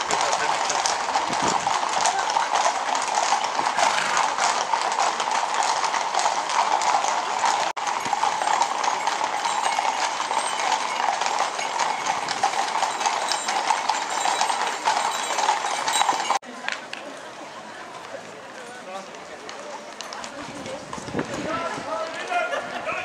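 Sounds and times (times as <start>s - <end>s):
hooves clip-clopping on asphalt: 0.0s - 23.0s.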